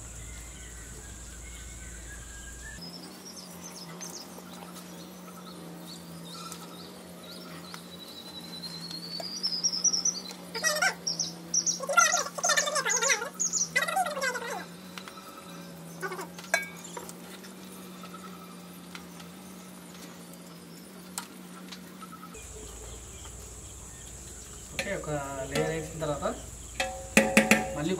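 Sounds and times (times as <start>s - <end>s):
birds calling: 0.0s - 27.9s
steady low hum: 0.0s - 27.9s.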